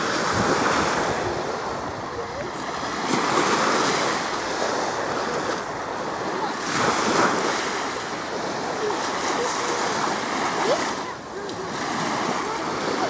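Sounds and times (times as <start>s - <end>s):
small waves washing up shore: 0.0s - 13.0s
wind rumbling on microphone: 0.0s - 13.0s.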